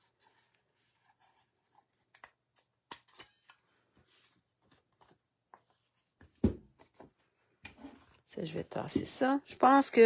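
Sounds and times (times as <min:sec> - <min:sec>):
paper rustling: 0:00.0 - 0:08.6.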